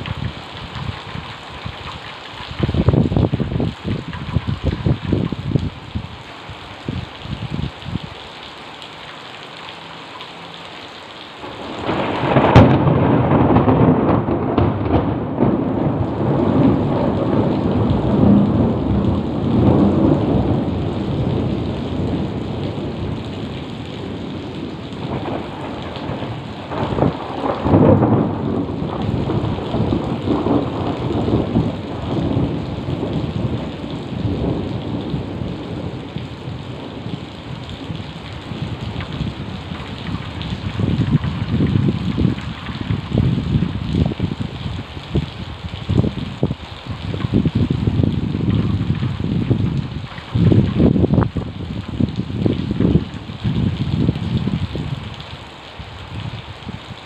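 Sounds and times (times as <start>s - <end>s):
thunder rumbling: 0.0s - 6.1s, 11.4s - 55.3s
heavy rain: 0.0s - 57.0s.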